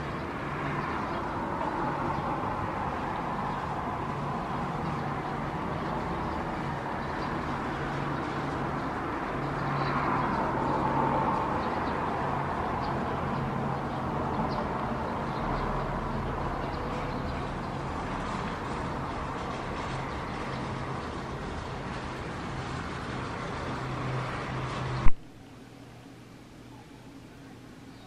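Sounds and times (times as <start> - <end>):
distant vehicle rush: 0.0 - 25.2.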